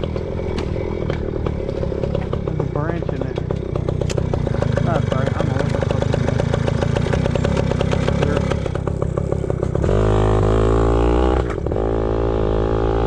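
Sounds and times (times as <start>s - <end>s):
small two-stroke engine running: 0.0s - 13.0s.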